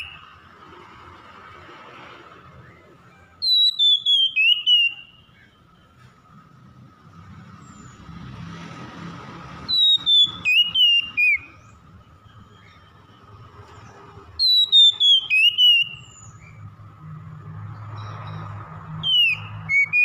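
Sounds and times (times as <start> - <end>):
bird singing whistled notes: 0.0 - 0.5, 2.4 - 8.1, 9.6 - 17.1, 17.7 - 20.0.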